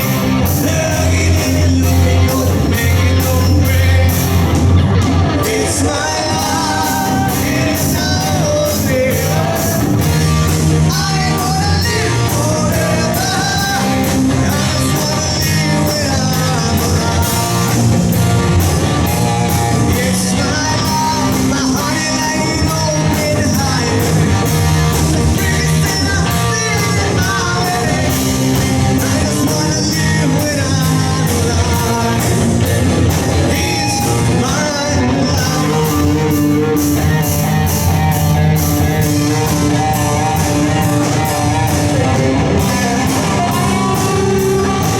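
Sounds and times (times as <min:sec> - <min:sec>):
bass guitar: 0:00.0 - 0:44.9
distorted electric guitar: 0:00.0 - 0:44.9
drum kit beat: 0:00.0 - 0:44.9
man singing: 0:00.0 - 0:44.9.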